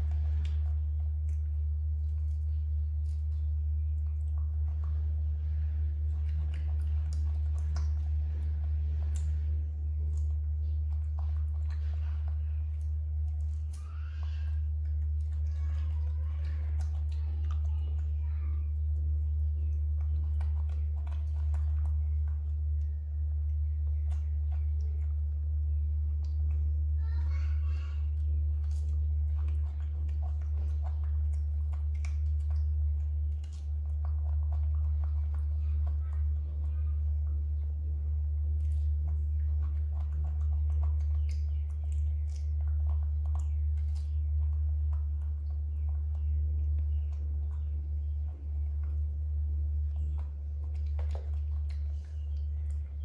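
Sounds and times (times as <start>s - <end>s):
monkey chewing: 0.0s - 53.0s
steady low hum: 0.0s - 53.0s.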